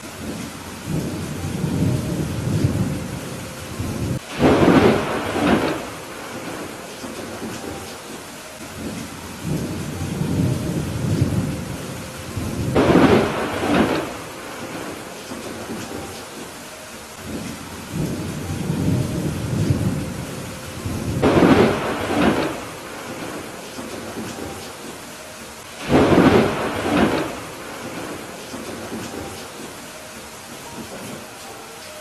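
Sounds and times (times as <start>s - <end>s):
steady rain: 0.0s - 32.0s
rolling thunder: 0.1s - 8.2s, 8.8s - 16.5s, 17.2s - 25.1s, 25.7s - 29.8s
sharp thunderclaps: 0.2s - 3.2s, 3.8s - 7.9s, 8.8s - 16.2s, 17.3s - 25.0s, 25.8s - 29.8s.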